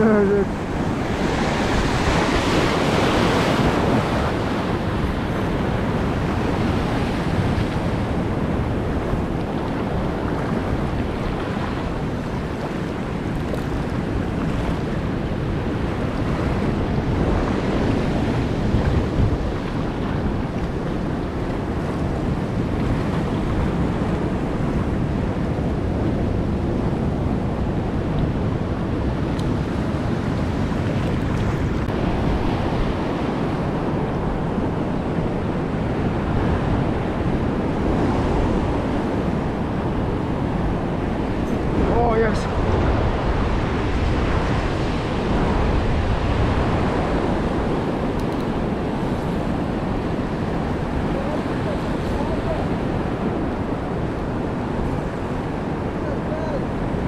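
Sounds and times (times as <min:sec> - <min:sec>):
surf washing over rocks: 0:00.0 - 0:57.0
wind buffeting microphone: 0:00.0 - 0:57.0.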